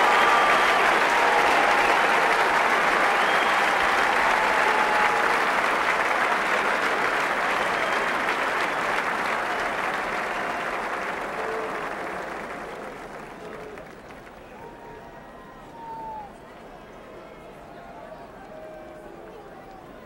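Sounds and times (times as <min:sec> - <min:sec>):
stadium crowd cheering and clapping: 0:00.0 - 0:20.0.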